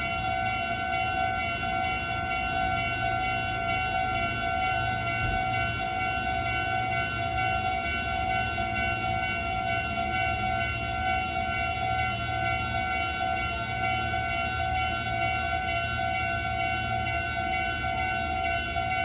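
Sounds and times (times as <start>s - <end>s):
level crossing alarm ringing: 0.0s - 19.0s.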